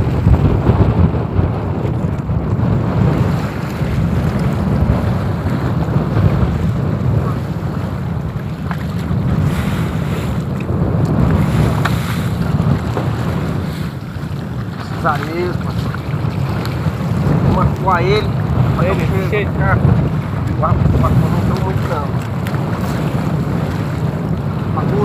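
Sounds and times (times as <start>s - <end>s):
choppy sea water washing: 0.0s - 25.0s
wind buffeting microphone: 0.0s - 25.0s.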